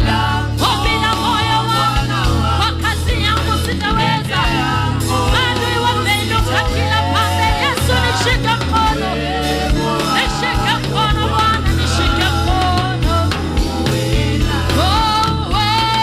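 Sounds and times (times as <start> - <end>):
gospel singing over a band: 0.0 - 16.0.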